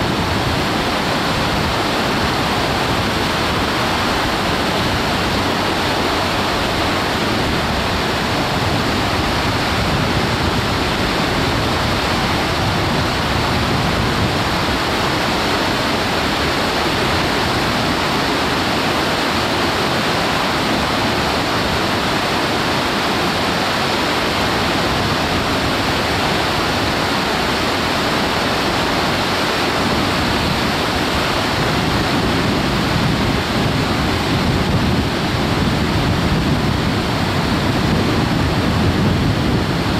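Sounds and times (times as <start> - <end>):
whitewater rushing over boulders: 0.0 - 39.9.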